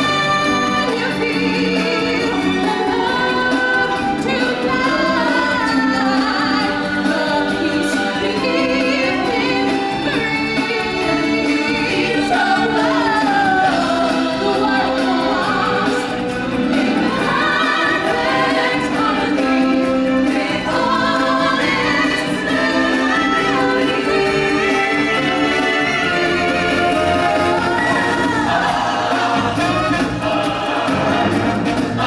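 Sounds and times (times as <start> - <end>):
chorus singing with instruments: 0.0 - 32.0.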